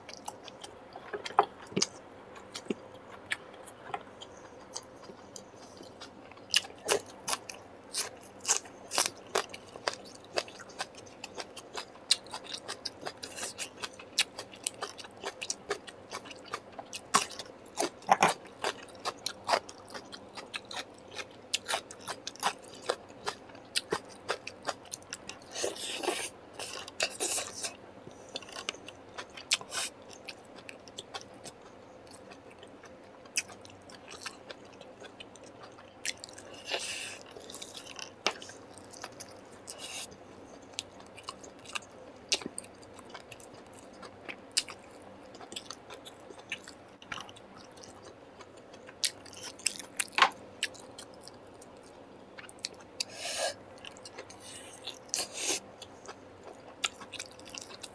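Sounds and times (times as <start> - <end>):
person chewing food: 0.1 - 57.9.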